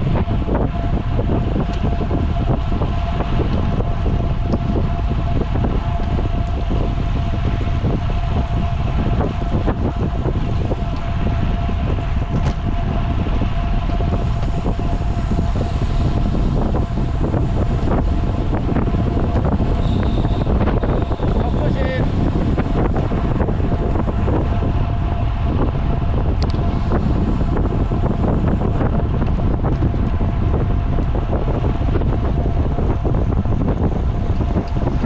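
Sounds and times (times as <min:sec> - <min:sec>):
thin steady whine: 0:00.0 - 0:35.0
wind buffeting microphone: 0:00.0 - 0:35.0.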